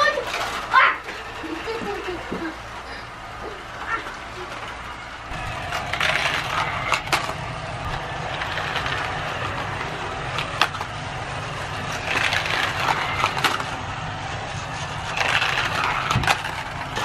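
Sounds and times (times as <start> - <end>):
plastic wheels rattling: 0.0 - 17.0
toy car motor whir: 0.0 - 17.0.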